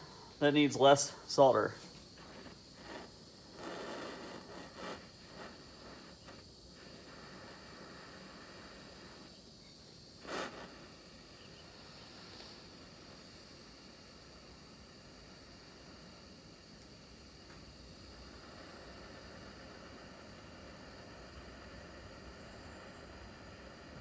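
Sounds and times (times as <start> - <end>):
steady faint hiss: 0.0 - 24.0.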